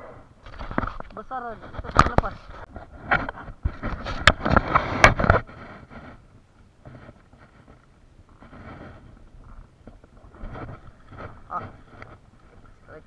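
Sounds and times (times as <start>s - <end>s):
faint rustles: 0.0s - 13.0s
gear scraping on plastic kayak: 0.0s - 13.0s.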